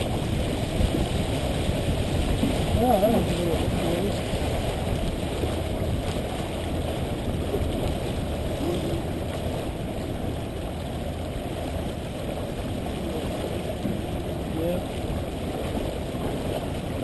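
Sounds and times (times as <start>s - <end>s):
water rushing along a hull: 0.0s - 17.0s
wind buffeting microphone: 0.0s - 17.0s.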